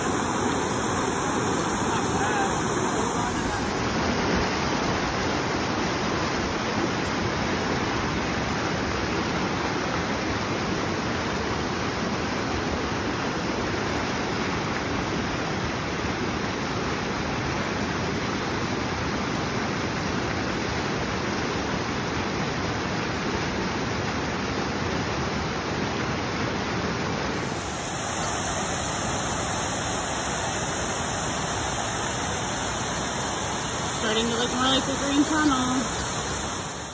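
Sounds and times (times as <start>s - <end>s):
creek rushing over rocks: 0.0s - 36.9s.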